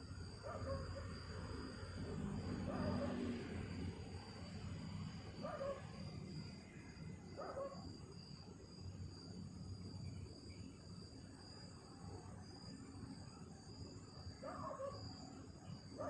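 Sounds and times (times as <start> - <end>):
night insects trilling: 0.0 - 16.0.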